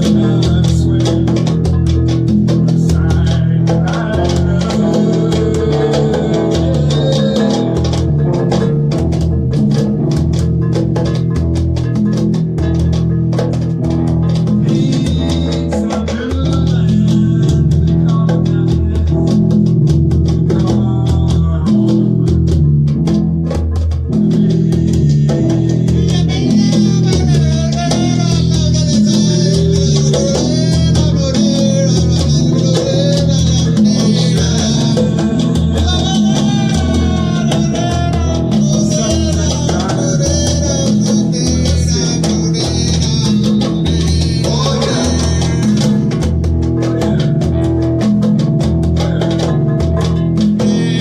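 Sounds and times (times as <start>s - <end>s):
band playing a steady groove: 0.0s - 51.0s
bending lead guitar line: 0.0s - 51.0s.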